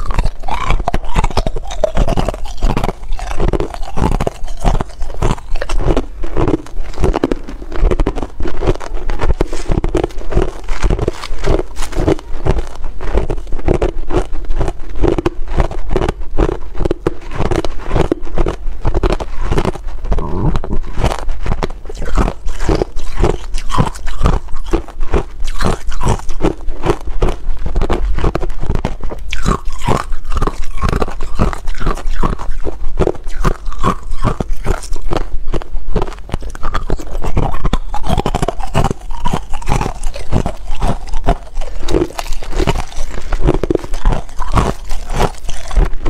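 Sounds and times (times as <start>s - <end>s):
ice being chewed: 0.0s - 46.0s.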